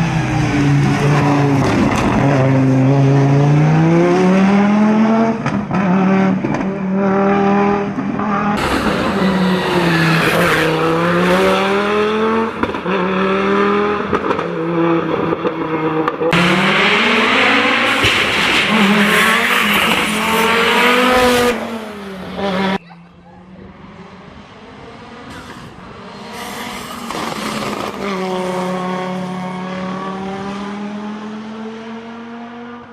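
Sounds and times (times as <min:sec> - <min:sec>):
rally car engine accelerating: 0:00.0 - 0:22.8, 0:24.1 - 0:32.9.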